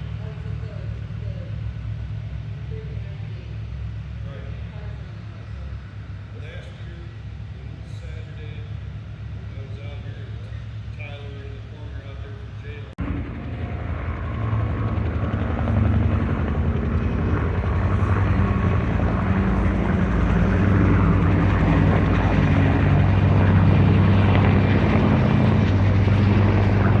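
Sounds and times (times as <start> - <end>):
aircraft engine drone: 0.0 - 27.0.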